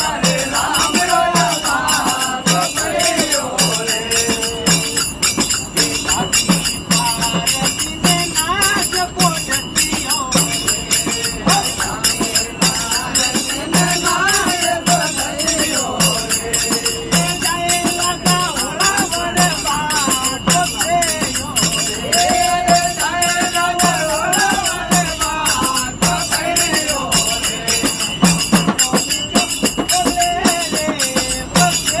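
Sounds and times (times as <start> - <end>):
drum beat: 0.0 - 32.0
group of voices singing: 0.0 - 32.0
hand cymbals jingling: 0.0 - 32.0.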